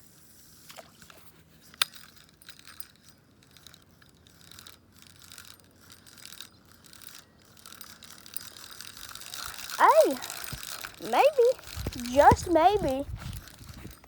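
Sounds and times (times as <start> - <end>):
fishing reel clicks and rattles: 0.6 - 14.0.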